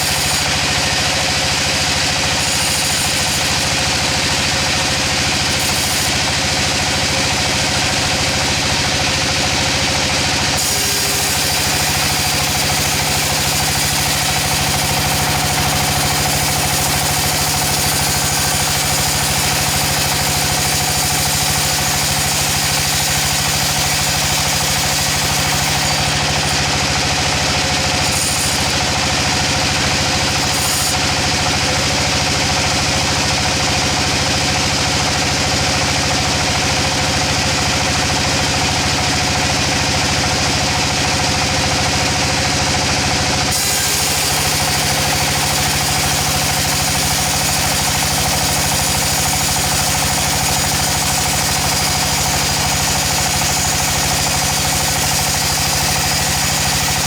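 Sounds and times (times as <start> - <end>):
sawmill machinery droning: 0.0 - 57.0.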